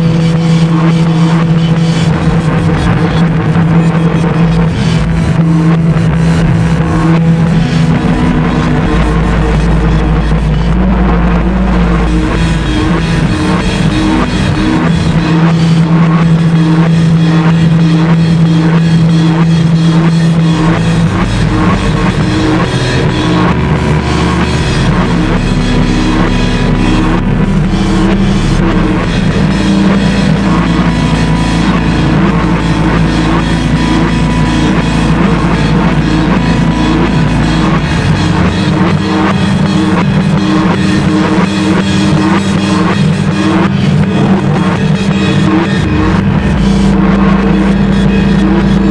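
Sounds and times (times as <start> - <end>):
harsh noise industrial music: 0.0 - 48.9.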